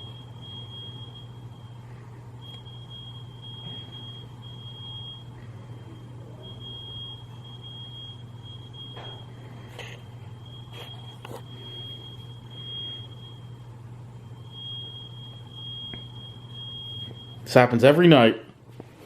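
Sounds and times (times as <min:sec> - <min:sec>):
smoke alarm beeping through wall: 0:00.0 - 0:18.5.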